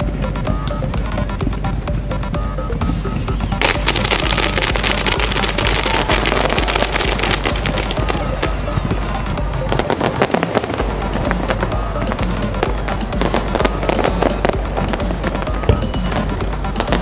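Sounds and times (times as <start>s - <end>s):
loud music with heavy bass: 0.0s - 17.0s
fireworks cracking and popping: 2.8s - 17.0s.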